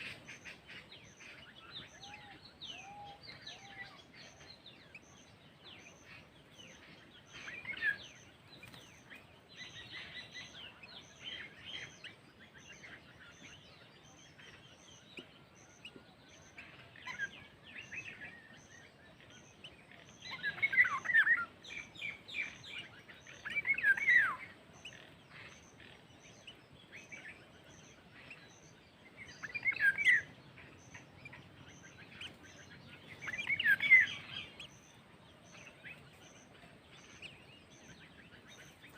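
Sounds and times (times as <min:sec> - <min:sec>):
birds chirping: 0:00.0 - 0:38.9
outdoor background noise: 0:00.0 - 0:38.9.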